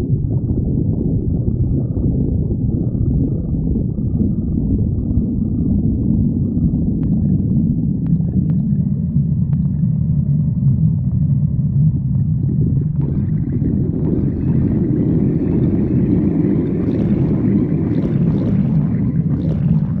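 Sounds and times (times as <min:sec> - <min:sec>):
stomach rumbling: 0:00.0 - 0:20.0.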